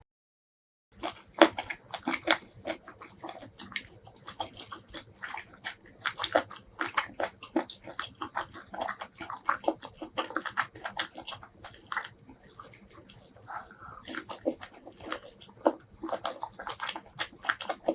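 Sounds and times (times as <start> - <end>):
wet chewing and lip-smacking: 1.0 - 17.9.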